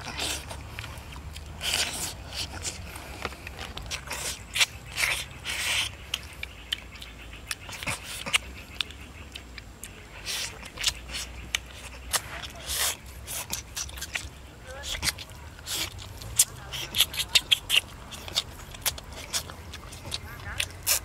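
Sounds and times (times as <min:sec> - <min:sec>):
person chewing and smacking: 0:00.0 - 0:21.0
wet slurping: 0:00.0 - 0:21.0.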